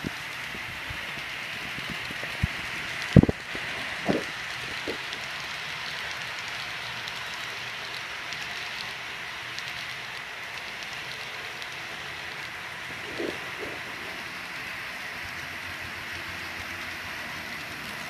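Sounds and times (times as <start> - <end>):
model train rolling on track: 0.0 - 18.0.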